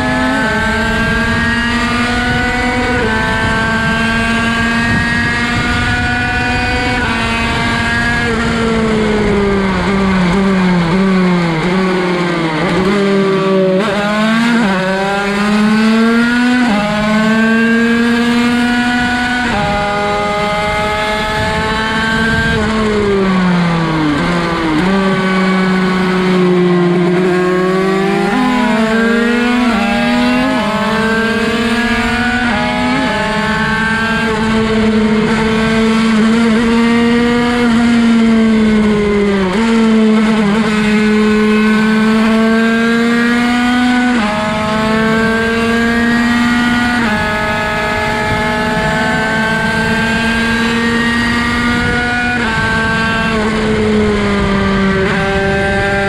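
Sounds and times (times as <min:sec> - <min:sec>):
two-stroke engine revving high: 0:00.0 - 0:56.0.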